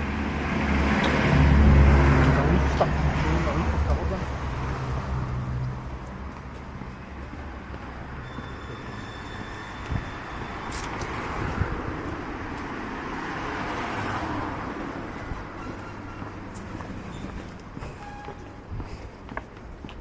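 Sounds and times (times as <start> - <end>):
outdoor rushing noise: 0.0 - 18.1.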